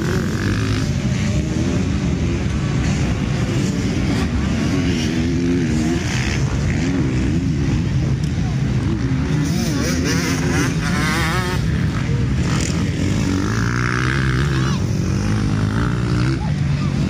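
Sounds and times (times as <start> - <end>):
motocross bike engines racing: 0.0 - 17.0.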